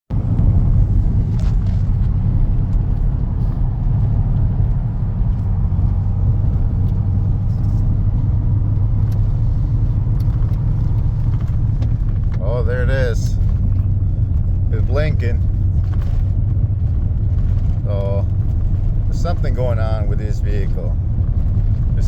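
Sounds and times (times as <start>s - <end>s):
truck engine idling: 0.1s - 22.0s.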